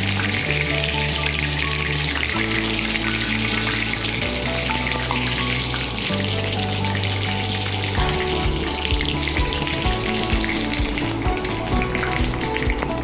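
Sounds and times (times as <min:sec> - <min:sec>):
background music with low notes: 0:00.0 - 0:13.0
hot oil sizzling: 0:00.0 - 0:13.0.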